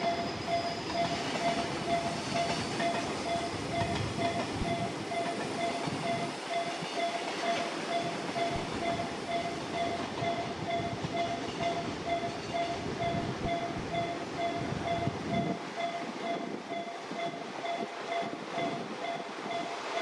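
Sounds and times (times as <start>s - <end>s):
level-crossing warning bell: 0.0s - 20.0s
train rumbling past: 0.0s - 20.0s.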